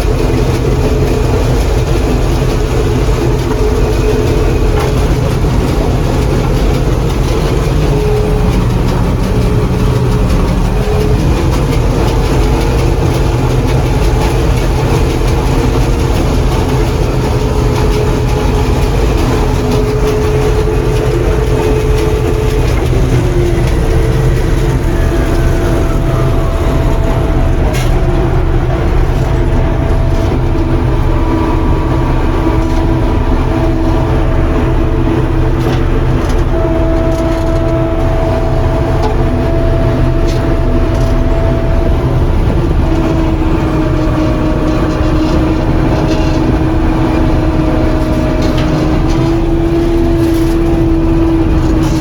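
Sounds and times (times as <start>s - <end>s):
diesel engine droning: 0.0s - 52.0s
threshing machinery whining: 0.0s - 52.0s.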